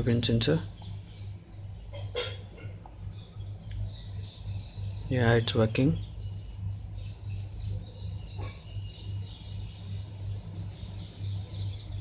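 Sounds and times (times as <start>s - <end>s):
pulsing low hum: 0.0s - 12.0s
faint bird chirps: 0.3s - 12.0s.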